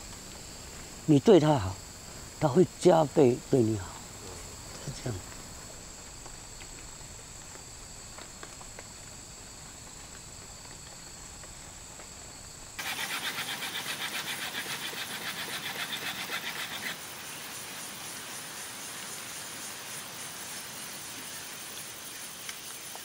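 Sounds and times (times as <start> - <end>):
insects trilling: 0.0 - 23.0
pulsing insect chorus: 0.0 - 23.0.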